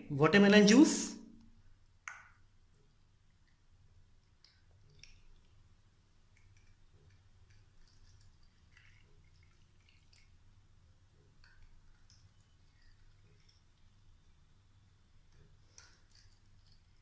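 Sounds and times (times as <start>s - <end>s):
juice dripping and splashing: 1.6s - 17.0s.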